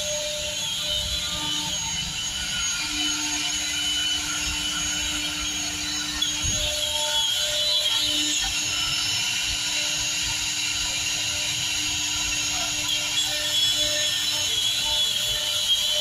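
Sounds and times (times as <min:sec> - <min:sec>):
router spindle whine cutting board: 0:00.0 - 0:16.0.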